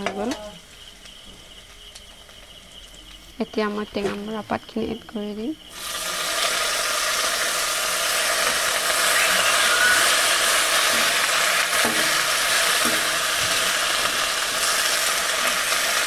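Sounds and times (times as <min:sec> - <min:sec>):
leaves sizzling in hot oil: 0:00.0 - 0:16.0.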